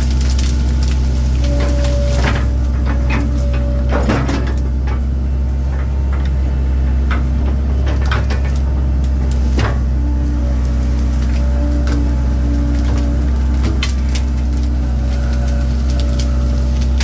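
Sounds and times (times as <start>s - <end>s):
excavator diesel engine running: 0.0s - 17.0s
wood cracking: 0.0s - 17.0s.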